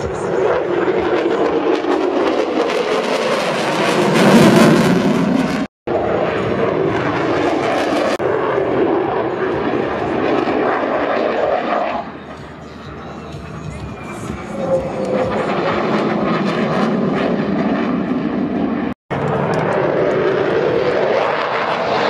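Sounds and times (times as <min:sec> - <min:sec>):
jet passing overhead: 0:00.0 - 0:22.0.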